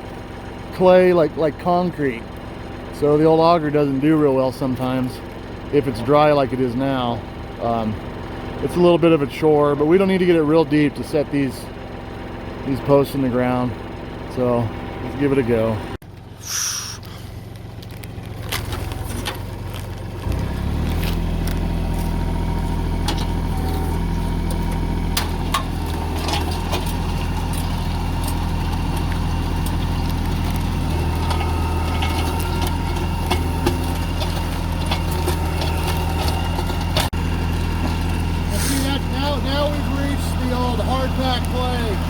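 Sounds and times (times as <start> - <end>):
post hole auger engine running: 0.0 - 42.0.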